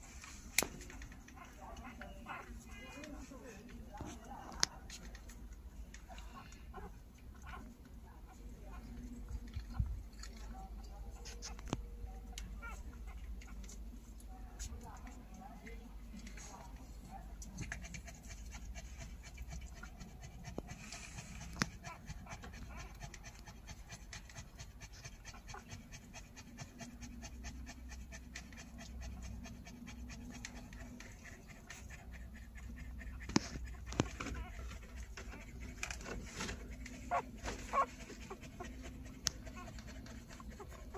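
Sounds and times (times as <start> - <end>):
dog panting rapidly: 0.0 - 5.4, 10.6 - 40.9.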